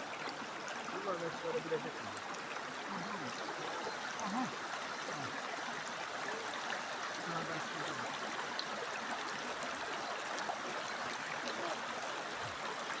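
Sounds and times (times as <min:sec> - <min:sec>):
stream water babbling: 0:00.0 - 0:13.0.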